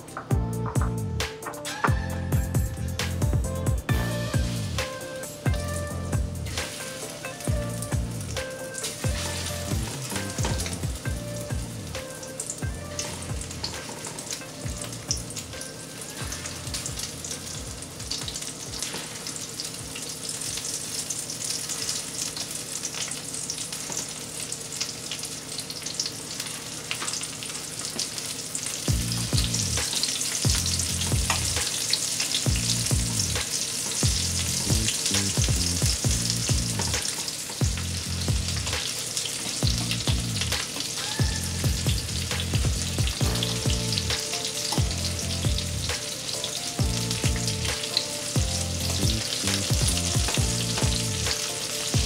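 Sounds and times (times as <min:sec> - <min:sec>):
shrimp frying in hot oil: 0:00.0 - 0:52.0.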